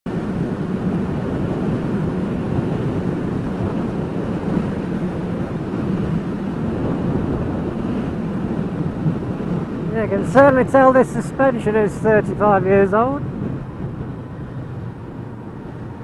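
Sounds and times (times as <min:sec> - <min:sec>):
wind on microphone: 0:00.1 - 0:16.0.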